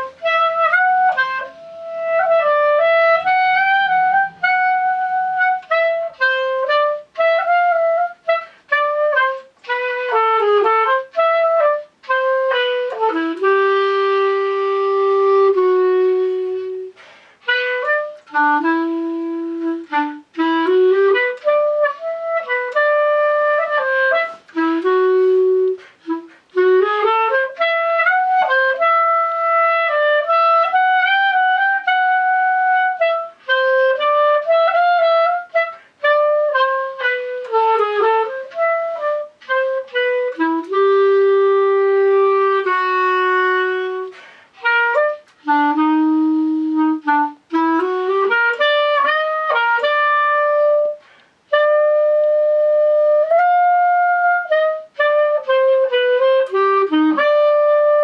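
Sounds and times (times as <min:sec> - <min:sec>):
solo clarinet melody: 0:00.0 - 0:58.0.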